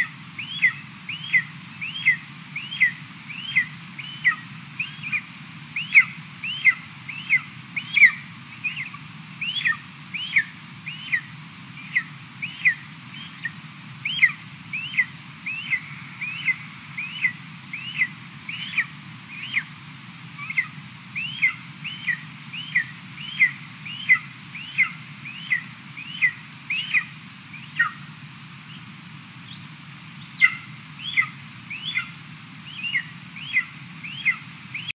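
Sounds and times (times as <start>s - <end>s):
eagle chick begging whistles: 0.0s - 5.2s, 5.8s - 19.7s, 20.4s - 28.0s, 30.3s - 34.9s.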